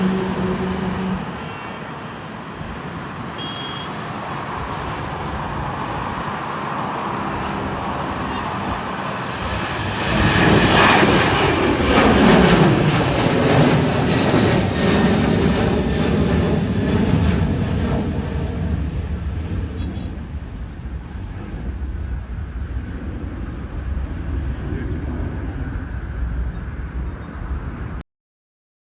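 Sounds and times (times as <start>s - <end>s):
jet engines at takeoff thrust: 0.0s - 28.0s.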